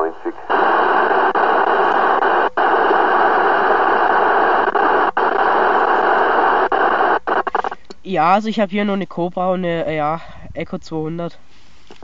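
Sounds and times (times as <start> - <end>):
radio speaker static hiss: 0.0 - 12.0.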